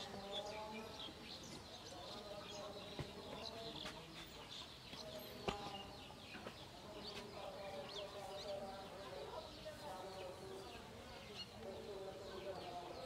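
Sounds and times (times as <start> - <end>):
birds chirping and clucking: 0.0 - 13.0.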